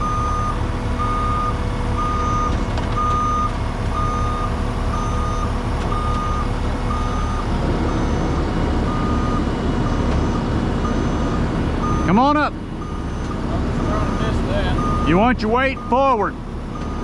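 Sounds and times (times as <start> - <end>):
diesel engine running: 0.0 - 17.0
track noise: 0.0 - 17.0
travel alarm beeping: 0.0 - 17.0.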